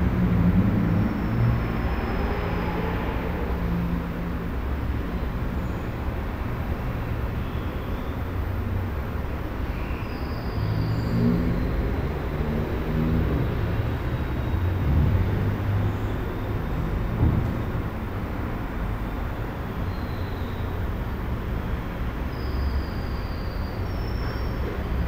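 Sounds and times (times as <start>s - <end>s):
low rumble and hiss: 0.0s - 25.0s.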